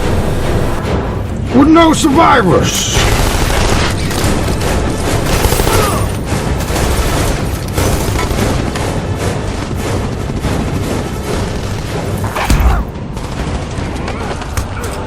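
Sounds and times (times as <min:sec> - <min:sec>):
rapid gunfire: 0:02.8 - 0:15.0.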